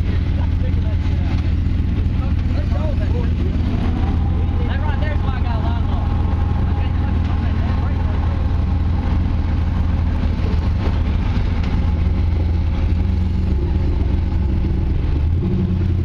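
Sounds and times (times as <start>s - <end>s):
buggy engine droning under load: 0.0s - 16.0s.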